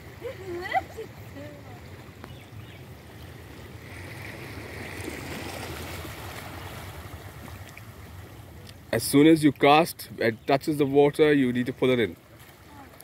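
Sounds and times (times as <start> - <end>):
small waves lapping on rocks: 0.0 - 9.8, 10.7 - 13.0.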